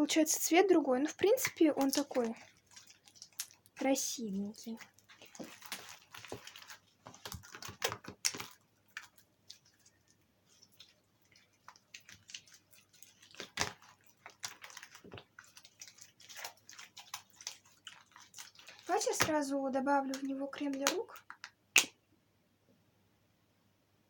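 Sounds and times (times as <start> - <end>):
wet slime squishing: 0.0 - 22.0.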